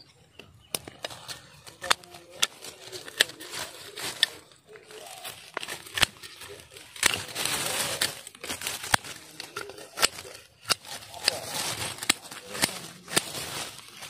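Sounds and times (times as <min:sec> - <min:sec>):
dry leaves rustling: 0:00.8 - 0:14.0.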